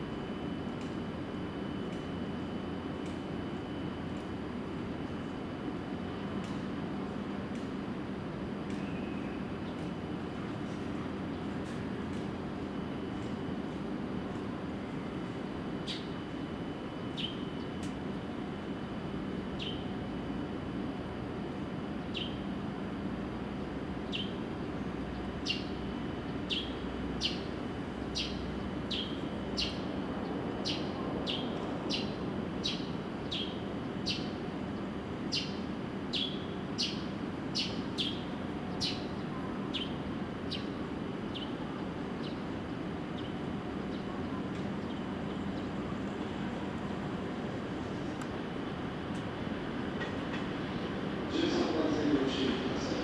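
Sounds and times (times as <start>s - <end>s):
station platform hum: 0.0s - 53.0s.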